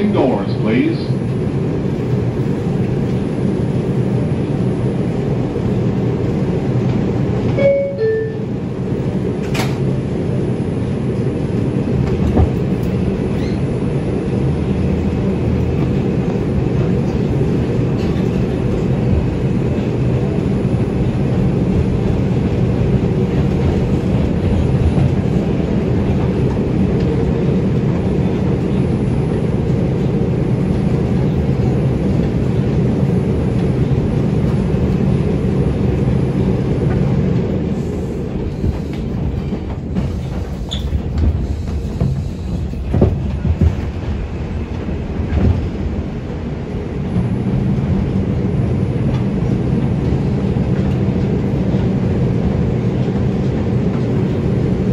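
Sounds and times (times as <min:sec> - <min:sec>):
subway wheels rumbling on rail: 0:00.0 - 0:54.9.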